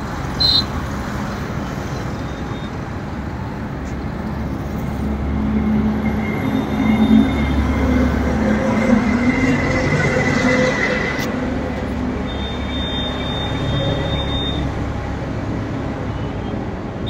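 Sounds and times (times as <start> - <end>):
motor vehicle noise: 0.0 - 17.0.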